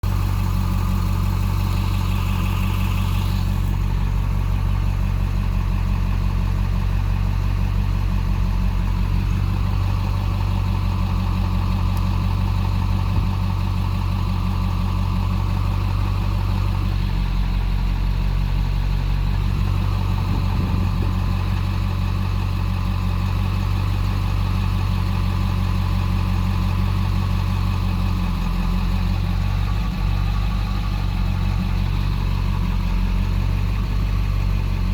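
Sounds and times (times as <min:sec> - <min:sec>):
diesel engine idling with misfire: 0:00.0 - 0:34.9.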